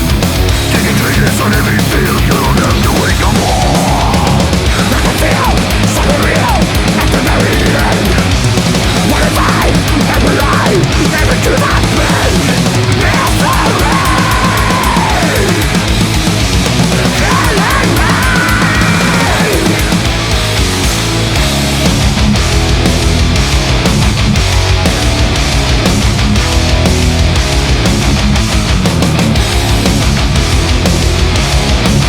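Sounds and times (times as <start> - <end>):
distorted guitars: 0.0 - 32.0
fast drum beat: 0.0 - 32.0.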